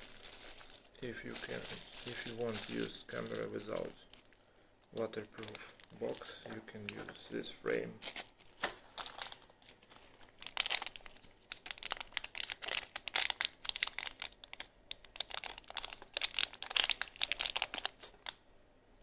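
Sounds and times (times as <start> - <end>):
plastic bags crinkling: 0.0 - 18.4.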